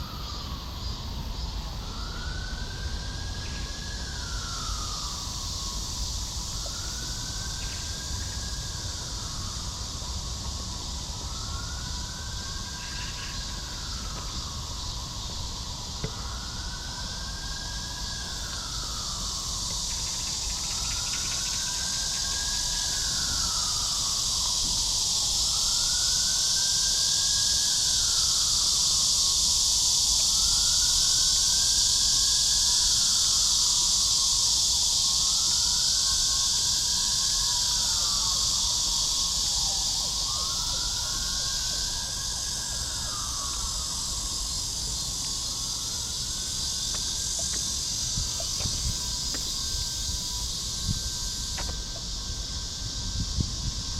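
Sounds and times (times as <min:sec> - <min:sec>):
siren wailing: 0:00.0 - 0:31.4, 0:35.0 - 0:53.9
cicadas buzzing: 0:00.0 - 0:53.9.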